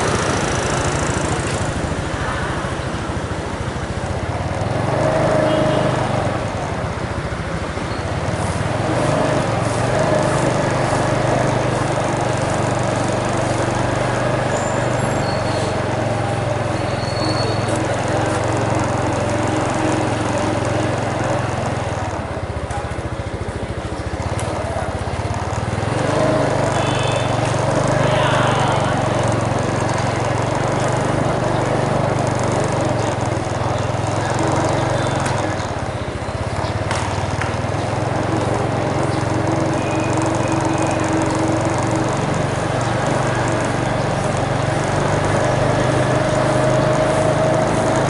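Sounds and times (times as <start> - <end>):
small engine droning: 0.0 - 48.0.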